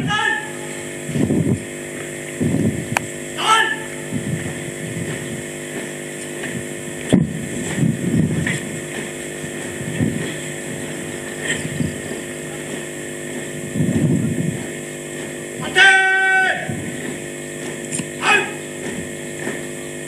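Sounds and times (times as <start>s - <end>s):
low rumbles: 0.0s - 20.0s
steady mechanical drone: 0.0s - 20.0s.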